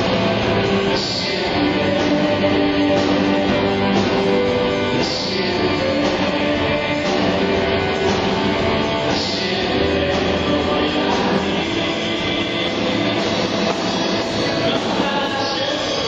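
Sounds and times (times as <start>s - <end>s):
electric guitars: 0.0s - 16.0s
person singing: 0.0s - 16.0s
steady drum beat: 0.0s - 16.0s.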